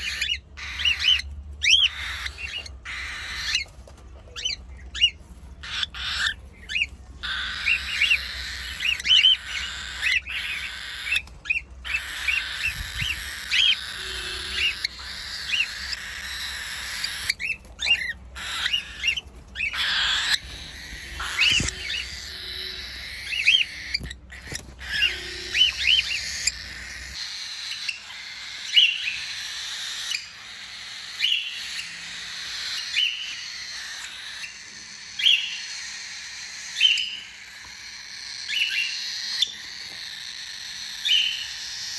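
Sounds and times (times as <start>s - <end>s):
chatter of many birds: 0.0s - 41.9s
cockatiels chirping: 0.0s - 41.9s.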